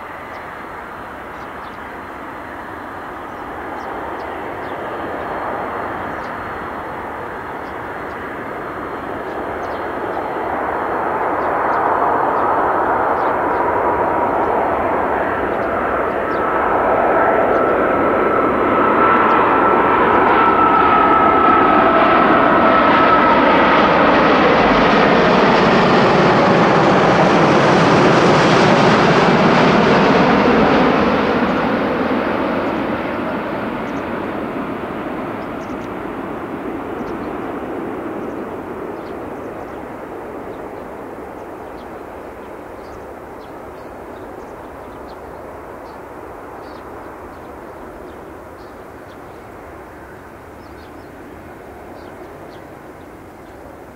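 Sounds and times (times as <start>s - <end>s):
jet airliner passing overhead: 0.0s - 53.9s.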